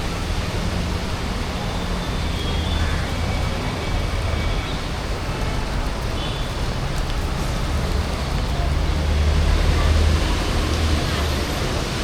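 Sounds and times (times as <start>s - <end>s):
tyres hissing on wet road: 0.0s - 12.0s.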